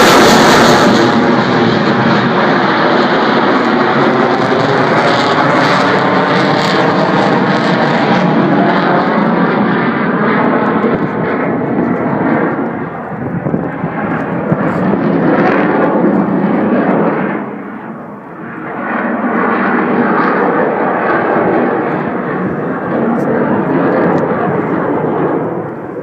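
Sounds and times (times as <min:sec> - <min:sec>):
loud jet noise: 0:00.0 - 0:26.0.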